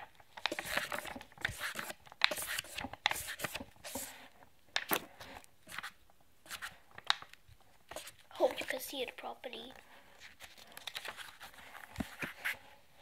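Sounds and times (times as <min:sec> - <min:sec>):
book pages flipping: 0:00.0 - 0:08.8, 0:09.7 - 0:12.8.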